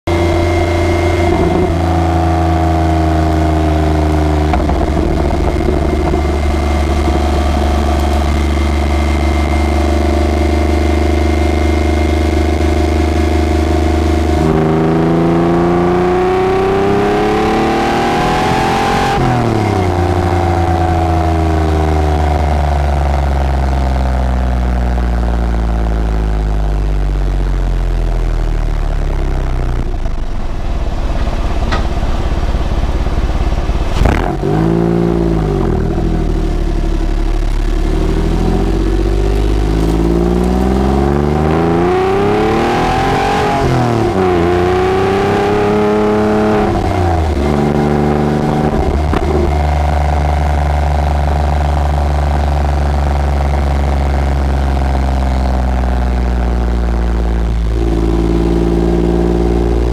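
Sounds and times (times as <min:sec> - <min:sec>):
car exhaust revving: 0:00.0 - 0:59.9.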